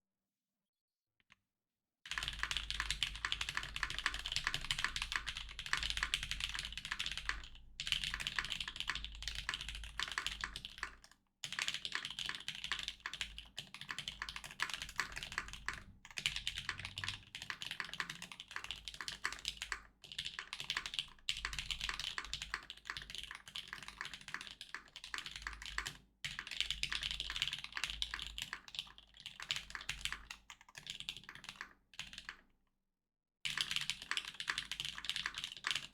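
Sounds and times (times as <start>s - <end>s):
mechanical keyboard typing: 2.1s - 32.4s, 33.5s - 35.9s.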